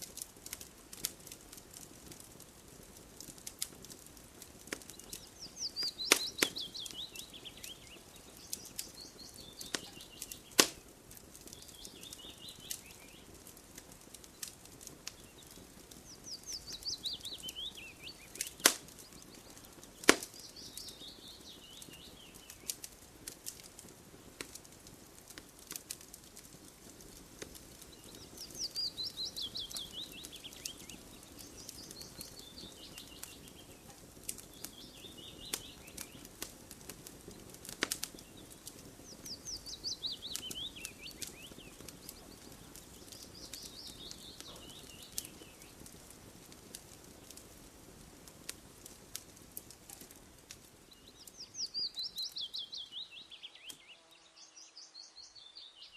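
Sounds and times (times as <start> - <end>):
campfire crackling and popping: 0.0 - 54.7.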